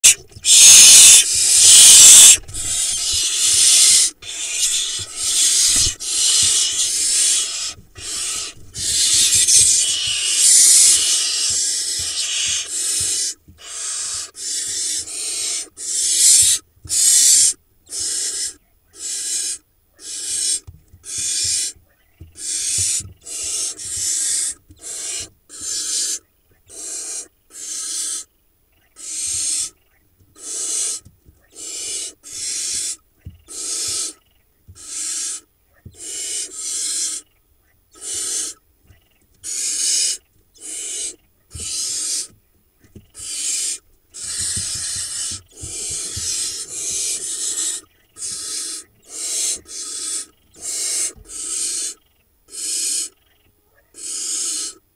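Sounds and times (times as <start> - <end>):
owl nestlings hissing: 0.0 - 21.8, 22.4 - 28.3, 29.0 - 29.7, 30.4 - 37.2, 37.9 - 38.6, 39.4 - 42.3, 43.1 - 53.1, 54.0 - 54.8.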